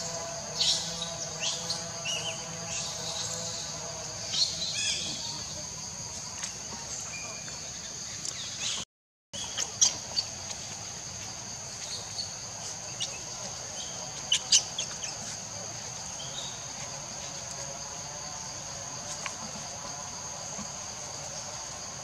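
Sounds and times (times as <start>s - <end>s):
shrill insect chorus: 0.0s - 8.8s, 9.4s - 22.0s.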